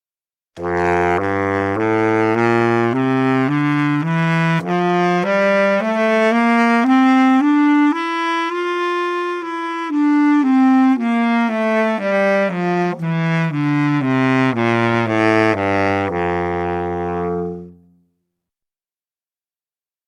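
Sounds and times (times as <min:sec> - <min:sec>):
saxophone playing rising scale: 0:00.6 - 0:18.0.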